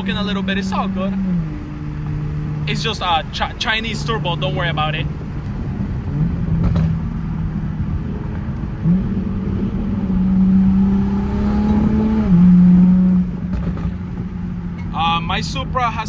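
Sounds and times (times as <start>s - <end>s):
car engine and exhaust: 0.0s - 16.0s.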